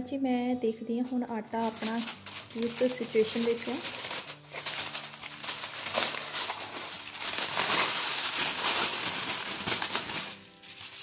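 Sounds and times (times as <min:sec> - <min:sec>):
aluminium foil crinkling: 0:01.3 - 0:11.0.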